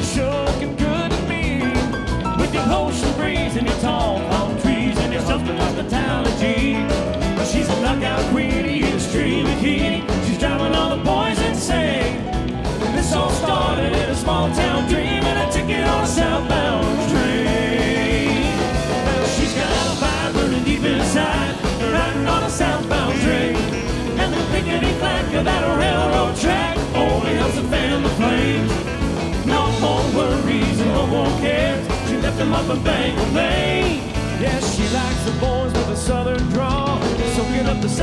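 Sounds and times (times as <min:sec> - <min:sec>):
country-rock band playing: 0:00.0 - 0:38.0
male vocal quartet singing: 0:00.0 - 0:38.0.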